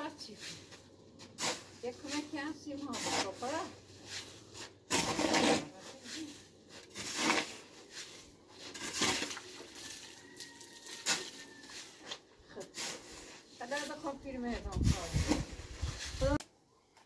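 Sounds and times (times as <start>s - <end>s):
rough scraping strokes: 0.2s - 16.4s.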